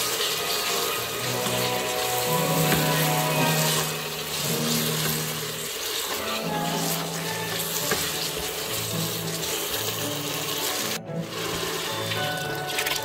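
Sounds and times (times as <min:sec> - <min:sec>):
steady hiss: 0:00.0 - 0:12.7
background music: 0:00.0 - 0:13.0
food sizzling in a pan: 0:00.0 - 0:13.0
water pouring into a pot: 0:00.0 - 0:13.0.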